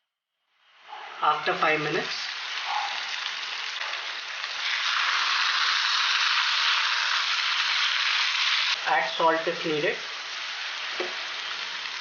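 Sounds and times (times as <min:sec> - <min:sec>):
curry sizzling in a pan: 0:00.6 - 0:12.0.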